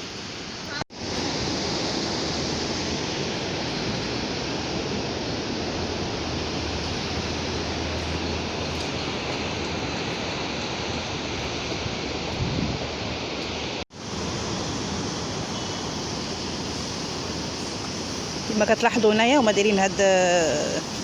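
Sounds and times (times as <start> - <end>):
sea surf breaking on shore: 0.0 - 21.0
wind: 0.0 - 21.0.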